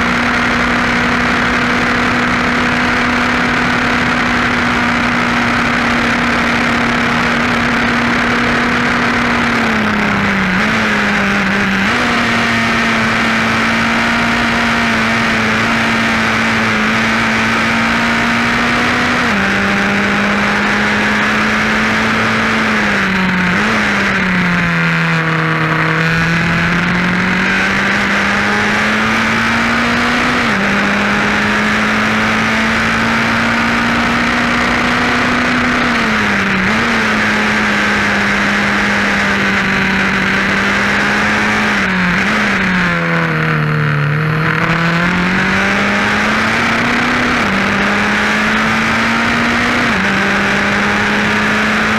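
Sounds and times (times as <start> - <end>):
race car engine at high revs: 0.0 - 51.9.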